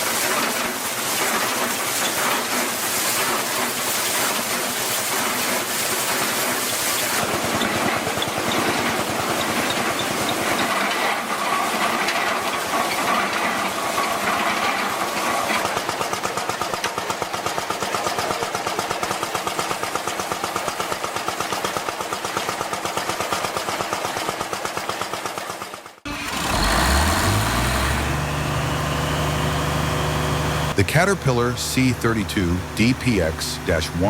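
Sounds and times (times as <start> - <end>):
old engine pounding: 0.0 - 34.0.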